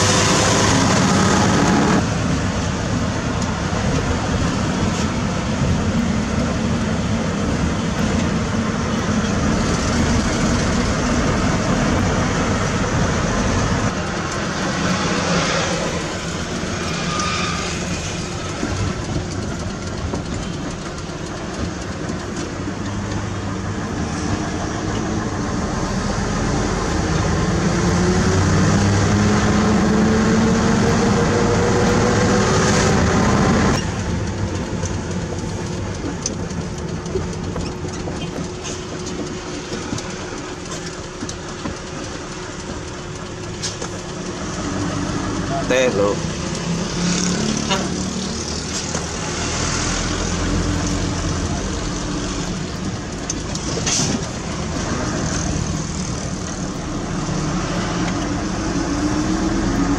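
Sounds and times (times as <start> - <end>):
road noise: 0.0 - 59.9
truck diesel engine accelerating: 0.0 - 59.9.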